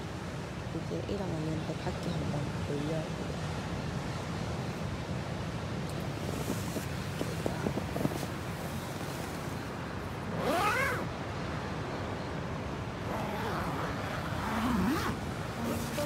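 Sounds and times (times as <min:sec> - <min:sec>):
sea: 0:00.0 - 0:16.0
wind: 0:00.0 - 0:16.0.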